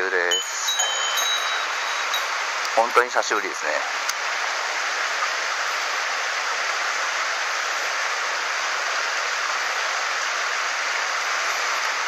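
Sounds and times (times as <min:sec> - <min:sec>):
stream rushing over rocks: 0:00.3 - 0:12.0.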